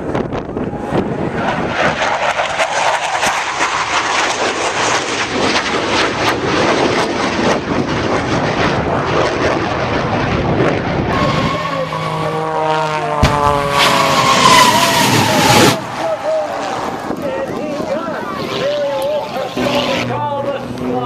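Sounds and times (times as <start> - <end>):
airplane engine running: 0.0 - 21.0.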